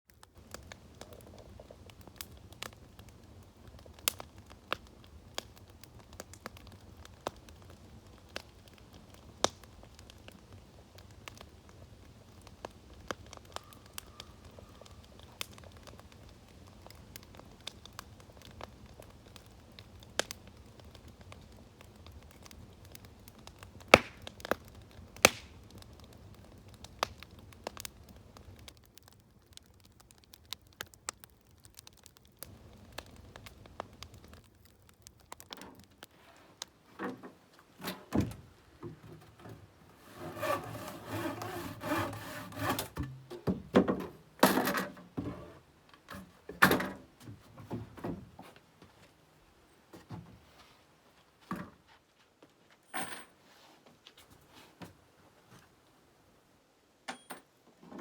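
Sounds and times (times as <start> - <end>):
wood fire crackling and popping: 0.1 - 48.7.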